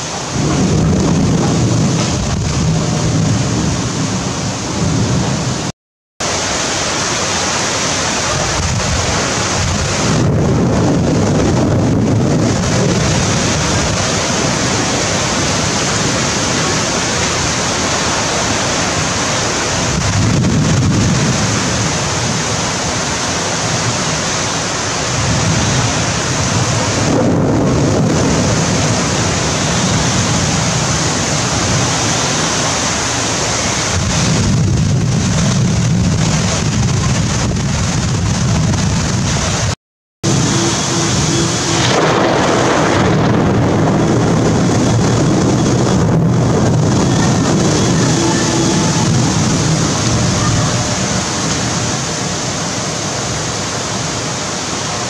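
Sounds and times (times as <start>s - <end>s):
low rumbles: 0.0s - 6.8s, 7.5s - 54.4s
heavy rain hissing: 0.0s - 55.0s
strong wind: 0.0s - 55.0s.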